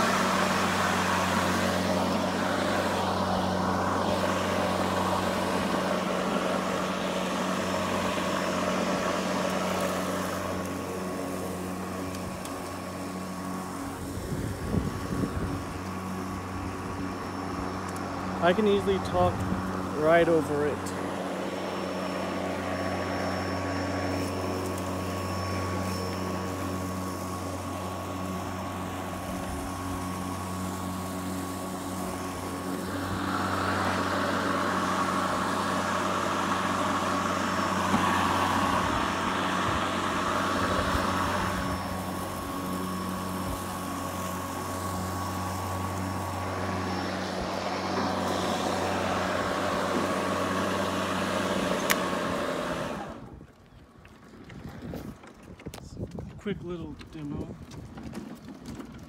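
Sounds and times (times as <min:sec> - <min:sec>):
electric lawn mower running: 0:00.0 - 0:53.6, 0:57.4 - 0:59.0.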